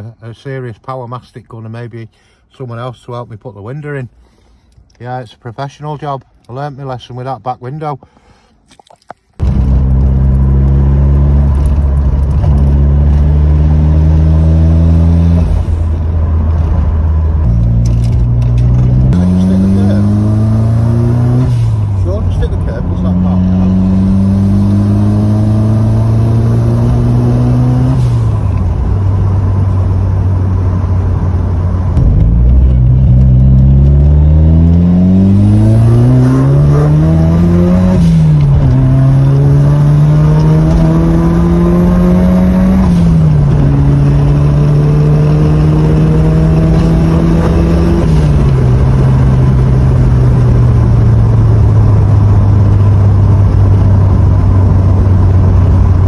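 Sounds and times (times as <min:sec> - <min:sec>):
car engine accelerating: 0:09.4 - 0:56.0.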